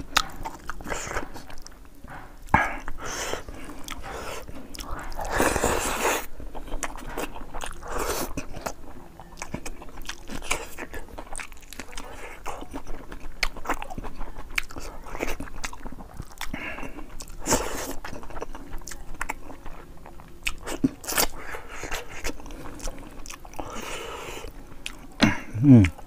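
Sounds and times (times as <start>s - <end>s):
close chewing with mouth clicks: 0.0s - 26.0s.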